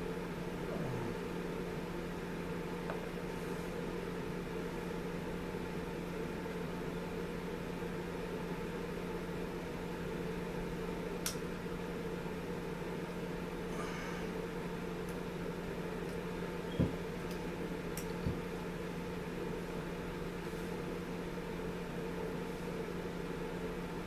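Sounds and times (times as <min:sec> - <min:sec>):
room noise hum and hiss: 0:00.0 - 0:24.0.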